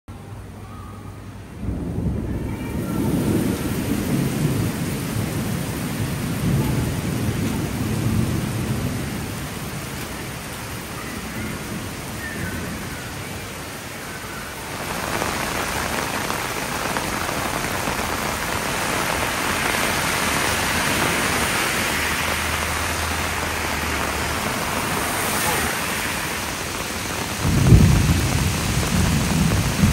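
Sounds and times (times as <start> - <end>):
heavy rain hiss: 0.2 - 29.9.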